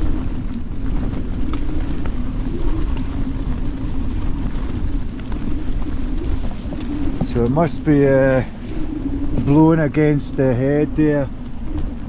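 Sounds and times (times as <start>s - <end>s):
strong wind buffeting a tent: 0.0s - 12.0s
tent fabric flapping and ticking: 0.0s - 12.0s.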